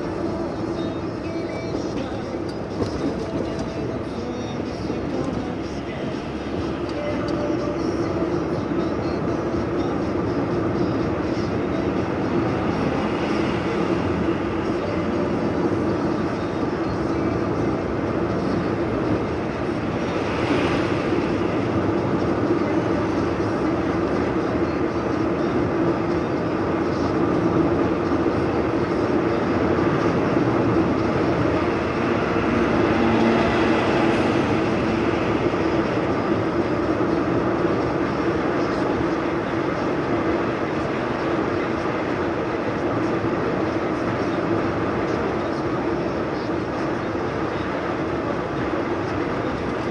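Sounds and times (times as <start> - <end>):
low engine drone: 0.0 - 49.9
road and tyre noise: 0.0 - 49.9.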